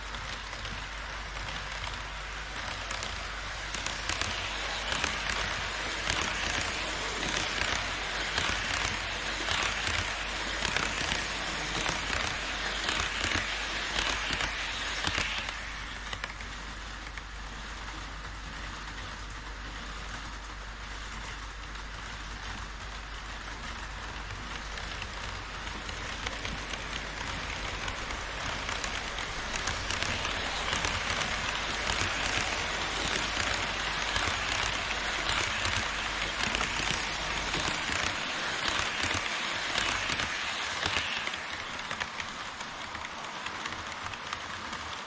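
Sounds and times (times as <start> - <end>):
model train wheels clicking: 0.0 - 45.0.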